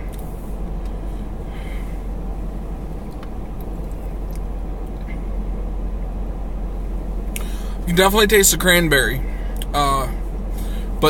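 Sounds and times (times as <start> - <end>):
car idling from inside: 0.0 - 11.0.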